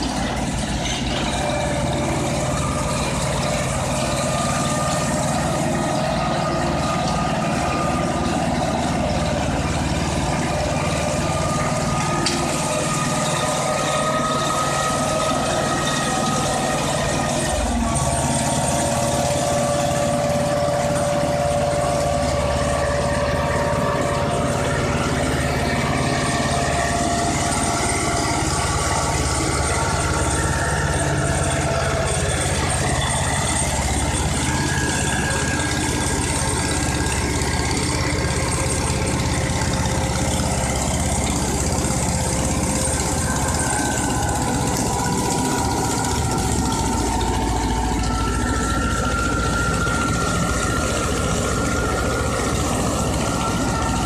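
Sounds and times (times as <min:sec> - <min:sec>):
tractor diesel engine labouring: 0:00.0 - 0:54.0.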